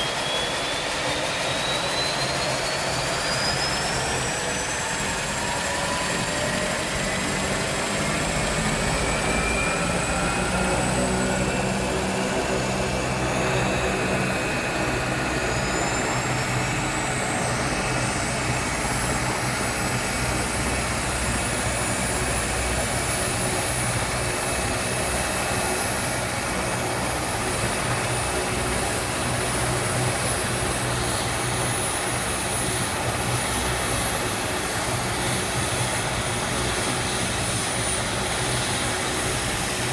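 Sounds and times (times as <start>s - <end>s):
helicopter rotor beat: 0.0s - 39.9s
helicopter turbine whine: 0.0s - 39.9s.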